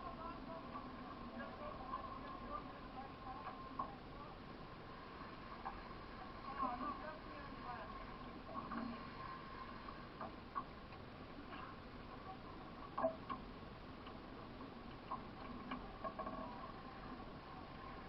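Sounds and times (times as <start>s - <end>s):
faint clicks and knocks: 0.0s - 18.0s
low steady background: 0.0s - 18.0s.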